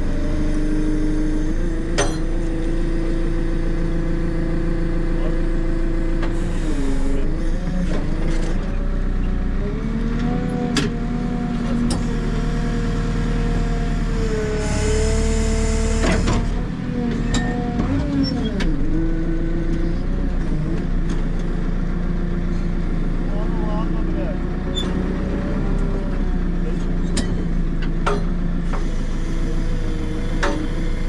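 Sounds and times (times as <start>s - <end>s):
diesel engine under hydraulic load: 0.0s - 31.0s.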